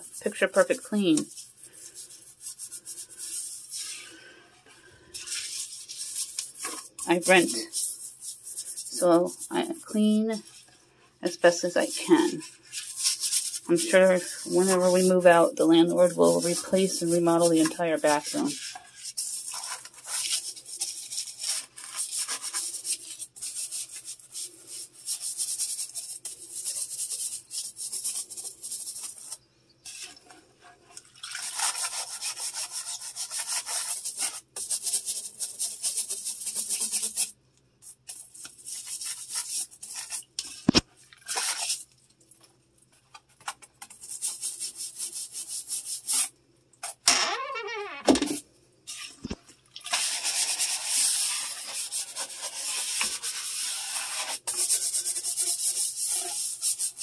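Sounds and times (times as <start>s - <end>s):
toilet brush scrubbing bowl: 0.0s - 41.9s, 43.5s - 47.0s, 49.8s - 57.0s.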